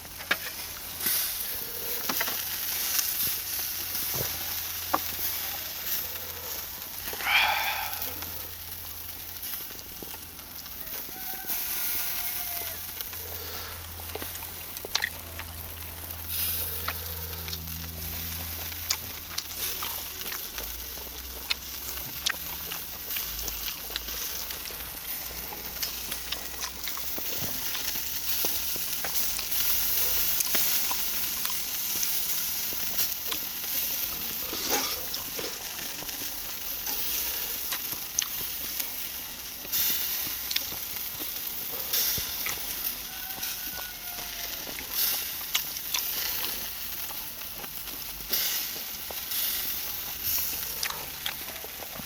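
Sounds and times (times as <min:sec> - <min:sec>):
meat sizzling on a grill: 0:00.0 - 0:52.0.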